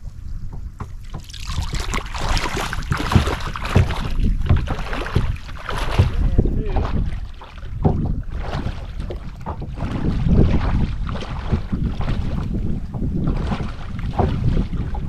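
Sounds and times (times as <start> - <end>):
wind gusting on microphone: 0.0 - 15.0
small water splashes: 0.8 - 15.0.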